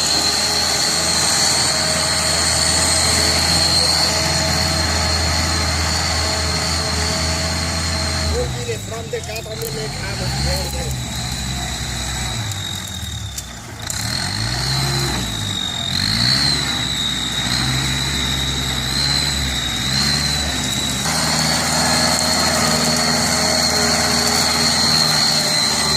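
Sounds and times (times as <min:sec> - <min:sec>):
high-pitched whine: 0:00.0 - 0:13.5, 0:14.9 - 0:25.9
tractor diesel engine running: 0:00.0 - 0:25.9.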